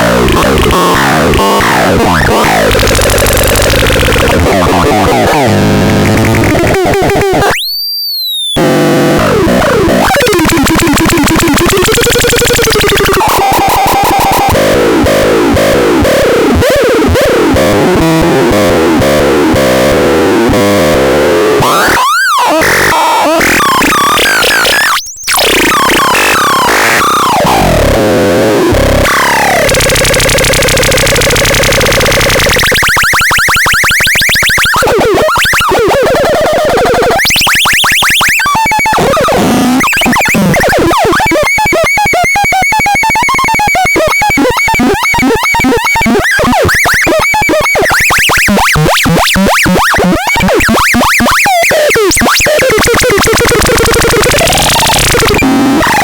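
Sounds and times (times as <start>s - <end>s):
harsh electronic noise: 0.0s - 56.0s.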